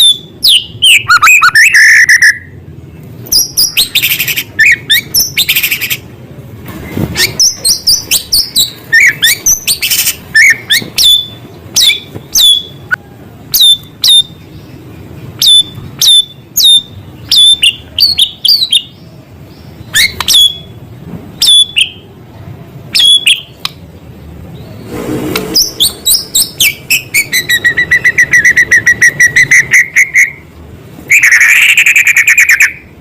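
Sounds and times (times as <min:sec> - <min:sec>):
songbird whistling song: 0:00.0 - 0:06.0, 0:07.1 - 0:14.8, 0:15.4 - 0:20.8, 0:21.4 - 0:22.1, 0:22.9 - 0:23.8, 0:25.5 - 0:30.5, 0:31.1 - 0:32.9.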